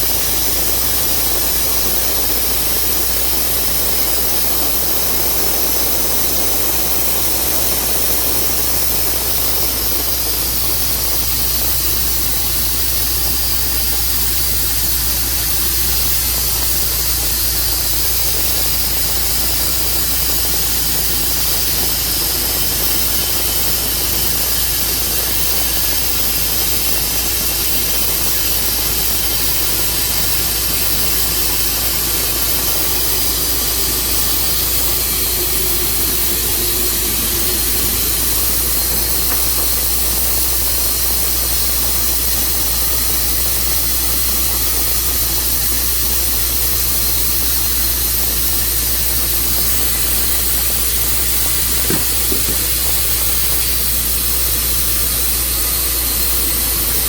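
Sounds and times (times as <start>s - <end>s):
engine-driven saw running: 0.0s - 57.0s.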